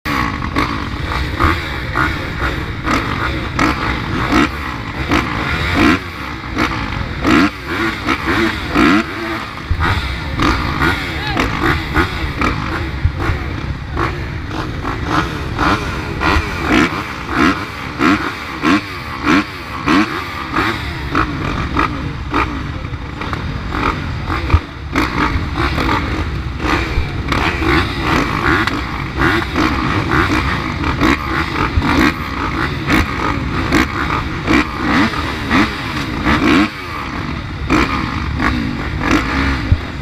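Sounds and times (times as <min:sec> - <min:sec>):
dirt bike engines revving: 0:00.1 - 0:40.0.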